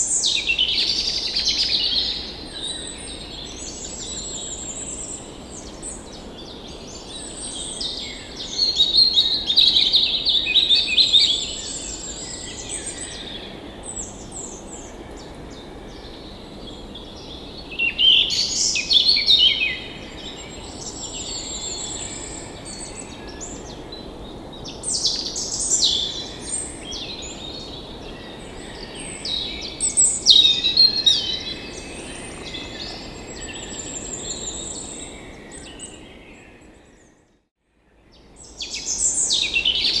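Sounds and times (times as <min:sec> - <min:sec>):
birds singing: 0:00.0 - 0:37.2, 0:38.1 - 0:40.0.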